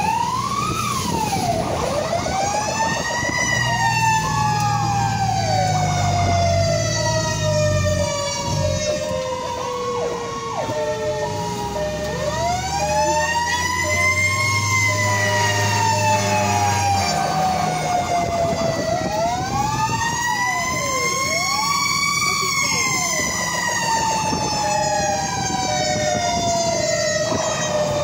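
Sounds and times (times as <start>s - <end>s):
mechanical siren wailing: 0.0s - 28.0s
siren sweeping up and down: 0.0s - 28.0s.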